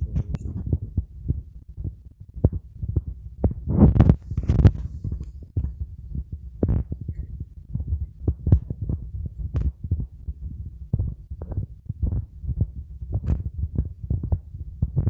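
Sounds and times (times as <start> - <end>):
low thumps on microphone: 0.0 - 15.0.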